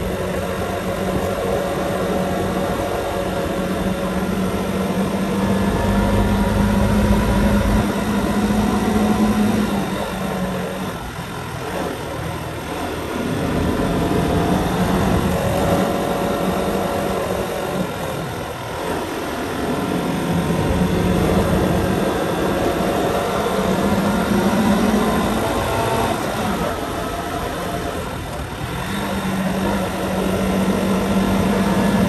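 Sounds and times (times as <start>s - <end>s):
motorbike engine running: 0.0s - 32.0s
wind and road noise: 0.0s - 32.0s.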